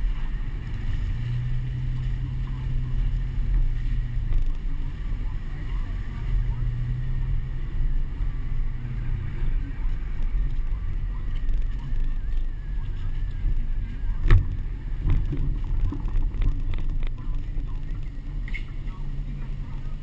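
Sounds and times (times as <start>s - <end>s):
road noise: 0.0s - 20.0s
truck engine rumble: 0.0s - 20.0s
wind: 0.0s - 20.0s.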